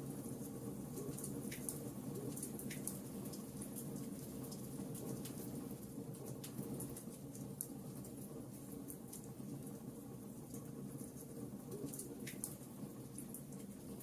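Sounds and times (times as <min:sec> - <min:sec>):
fireplace crackling: 0:00.0 - 0:14.0.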